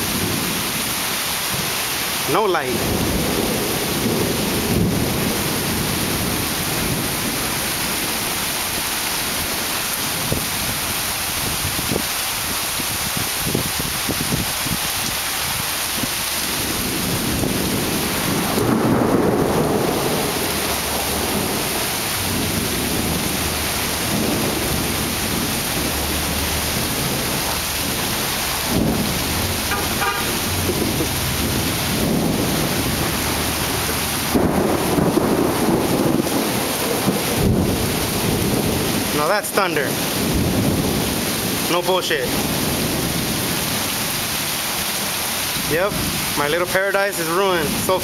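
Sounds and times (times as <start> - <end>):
thunder rumbling: 0.0 - 44.3
heavy rain pouring: 0.0 - 48.0.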